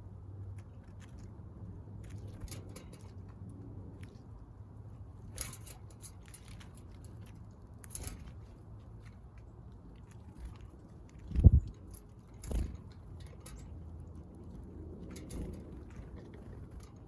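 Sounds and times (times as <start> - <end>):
birds pecking at seed: 0.1 - 17.0.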